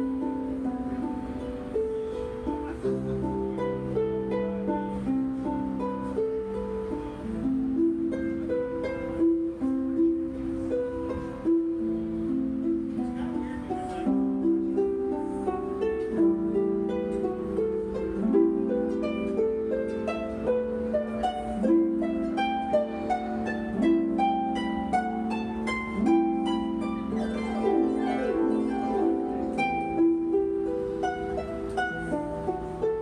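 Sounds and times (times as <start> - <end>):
harp plucked notes: 0.0 - 33.0.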